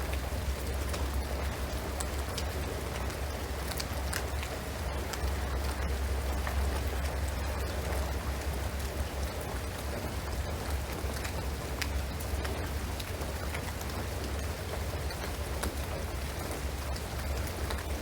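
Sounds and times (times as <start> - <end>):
rain on a shingled roof: 0.0 - 18.0
sharp raindrop ticks: 0.1 - 18.0.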